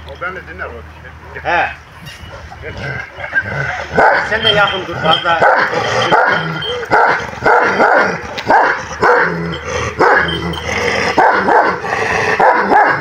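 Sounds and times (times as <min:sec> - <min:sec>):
dogs barking: 0:02.1 - 0:13.0.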